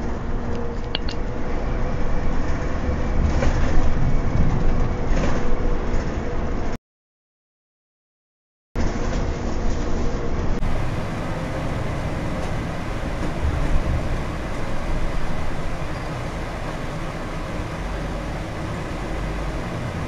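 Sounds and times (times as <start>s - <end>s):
bus engine and road noise: 0.0s - 6.8s, 8.8s - 20.0s.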